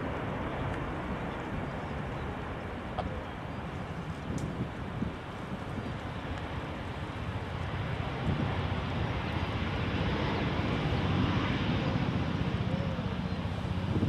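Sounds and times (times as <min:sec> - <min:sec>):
jet engines rumbling and hissing: 0:00.0 - 0:14.0.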